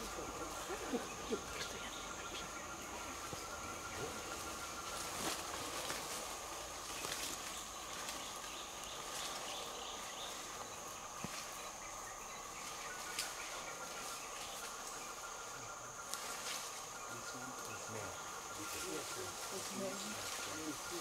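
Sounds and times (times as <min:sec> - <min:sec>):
insect chorus high buzz: 0:00.0 - 0:21.0.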